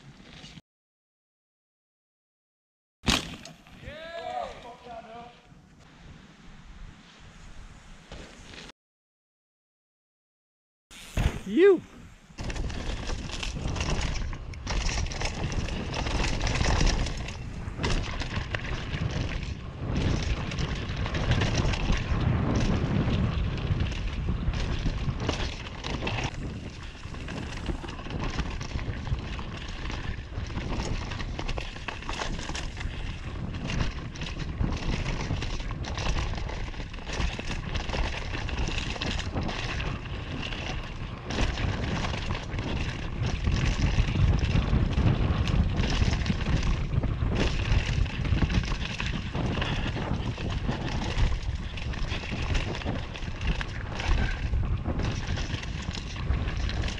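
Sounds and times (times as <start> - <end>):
bike tyres on dirt trail: 0.0 - 0.6, 3.1 - 8.7, 10.9 - 56.9
bike chain and frame rattling: 10.9 - 56.9
wind rumbling on microphone: 11.0 - 56.9.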